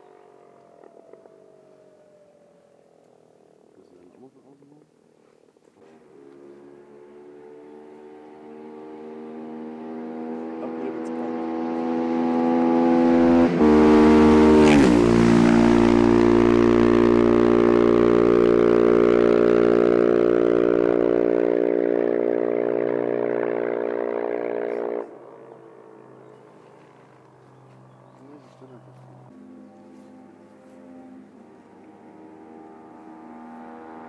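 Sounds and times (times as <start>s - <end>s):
motorcycle passing at speed: 0.0s - 3.8s, 5.8s - 34.0s.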